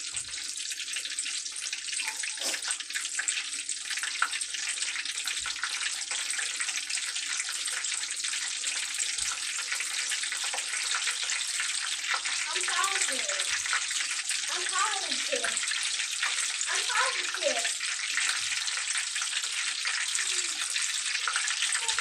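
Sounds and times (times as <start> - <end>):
food frying in hot oil: 0.0 - 22.0.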